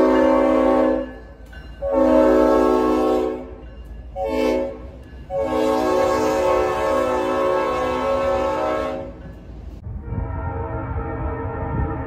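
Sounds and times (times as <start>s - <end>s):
locomotive air horn blasts: 0.0s - 1.2s, 1.8s - 3.6s, 4.2s - 9.2s, 10.0s - 12.0s.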